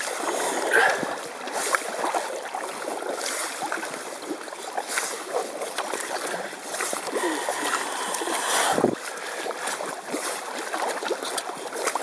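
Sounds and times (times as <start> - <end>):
paddle strokes splashing water: 0.0 - 12.0.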